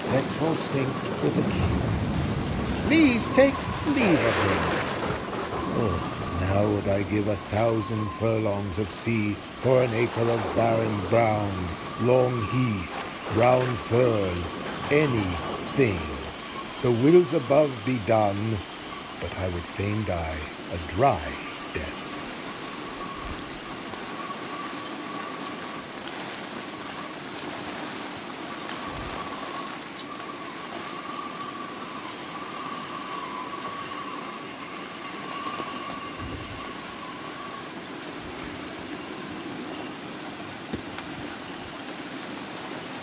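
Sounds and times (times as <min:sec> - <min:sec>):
wind and heavy sea rushing: 0:00.0 - 0:43.0
faint whistling tone: 0:02.8 - 0:25.9, 0:28.5 - 0:40.4.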